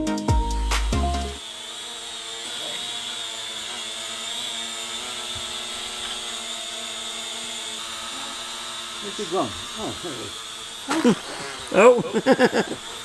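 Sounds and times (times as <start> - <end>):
smoke machine hissing: 1.2 - 13.0.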